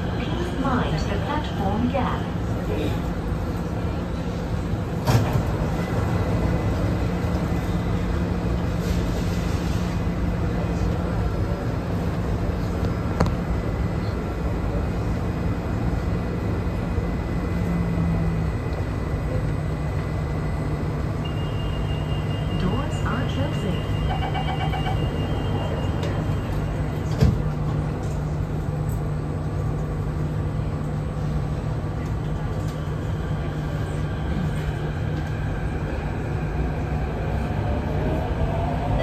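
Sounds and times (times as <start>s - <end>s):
train interior rumble: 0.0s - 39.0s.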